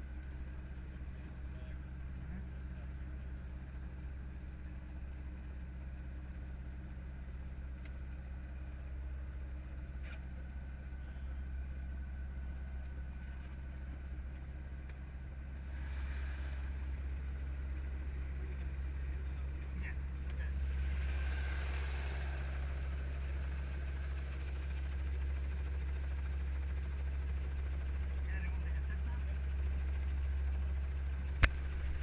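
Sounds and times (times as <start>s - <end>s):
helicopter engine and rotor drone: 0.0s - 32.0s.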